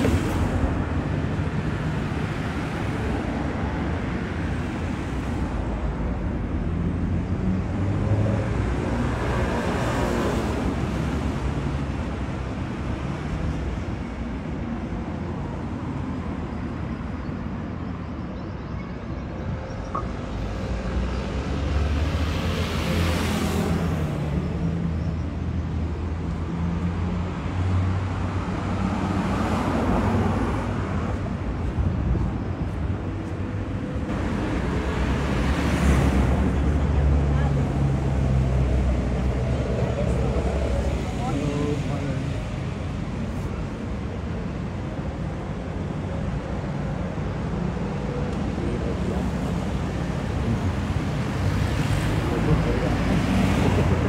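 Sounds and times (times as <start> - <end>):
traffic engine hum: 0.0 - 54.0.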